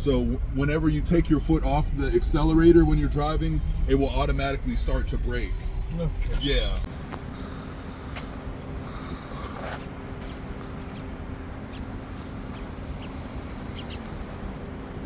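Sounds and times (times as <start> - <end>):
faint even hum: 0.0 - 15.0
road and tyre rumble inside vehicle: 0.0 - 15.0.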